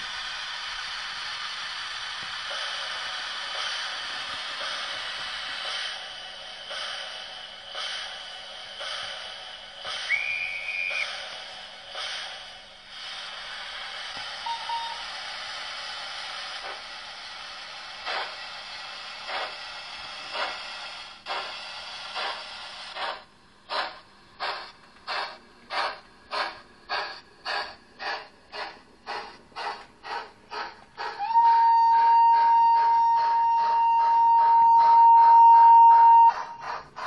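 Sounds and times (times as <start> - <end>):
steady steam hiss: 0.0 - 34.8, 36.1 - 37.0
steam locomotive exhaust chuffs: 0.0 - 37.0.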